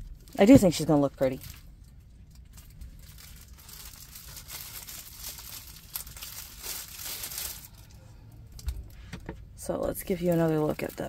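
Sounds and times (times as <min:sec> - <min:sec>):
plastic film crinkling: 0:00.0 - 0:08.0, 0:09.9 - 0:11.0.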